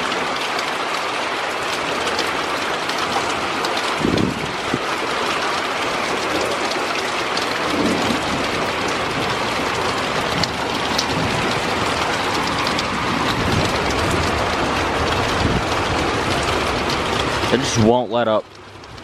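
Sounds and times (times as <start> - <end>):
heavy rain pouring: 0.0 - 19.0
raindrops ticking near microphone: 0.0 - 19.0.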